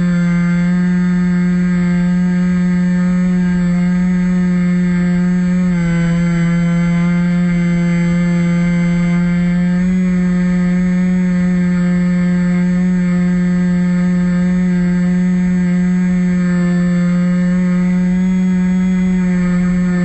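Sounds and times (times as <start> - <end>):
electric motor and propeller drone: 0.0 - 20.0.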